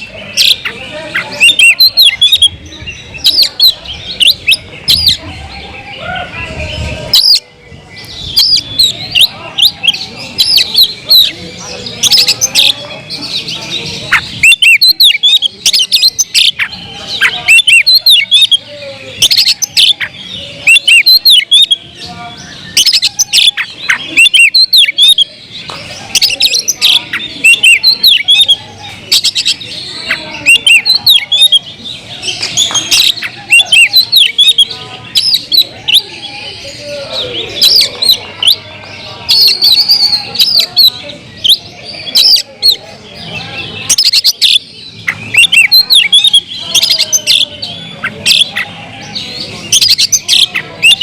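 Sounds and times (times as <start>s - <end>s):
magpie-robins singing: 0.0s - 51.0s.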